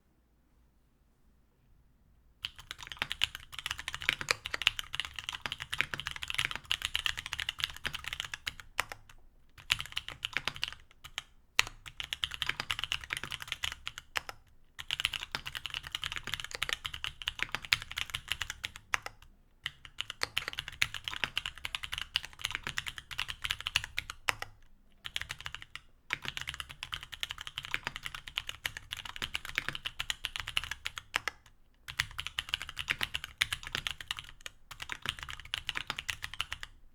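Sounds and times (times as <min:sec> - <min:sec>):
mechanical keyboard typing: 0:02.4 - 0:36.8.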